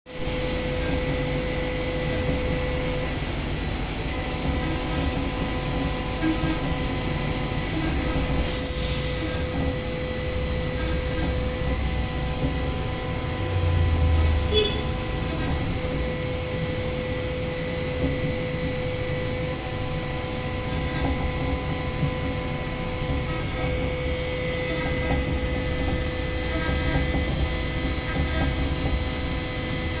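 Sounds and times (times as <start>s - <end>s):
machine whir and hiss: 0.1s - 30.0s.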